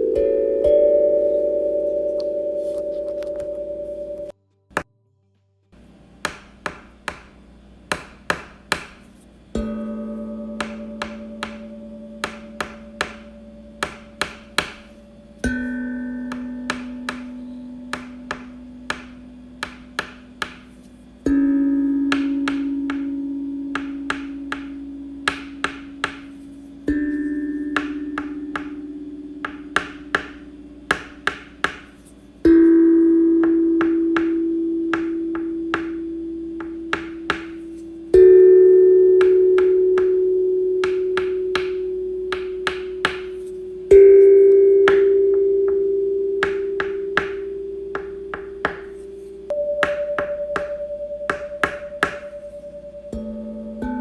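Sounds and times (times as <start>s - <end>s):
ringing tone struck: 0.0s - 4.4s, 9.6s - 54.0s.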